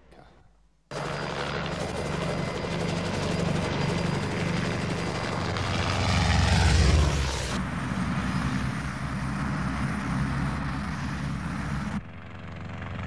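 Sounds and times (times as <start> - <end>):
helicopter rotor beating: 0.9 - 13.0.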